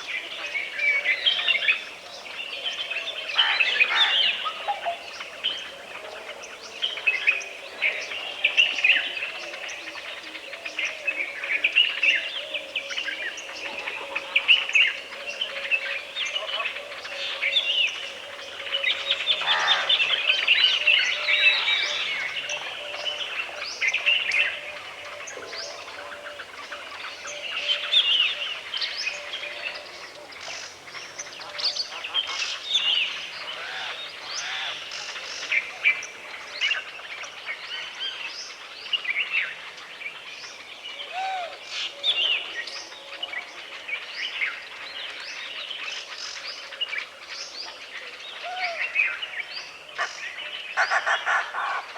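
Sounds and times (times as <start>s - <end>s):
woodland birds chirping: 0.0s - 51.9s.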